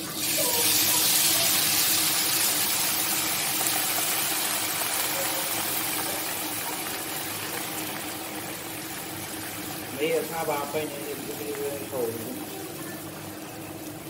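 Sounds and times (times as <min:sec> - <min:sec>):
water sizzling in hot pan: 0:00.0 - 0:14.0.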